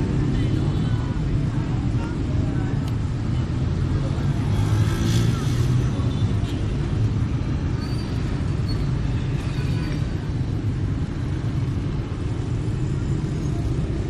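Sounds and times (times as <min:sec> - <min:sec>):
motorbikes and cars passing: 0:00.0 - 0:14.0.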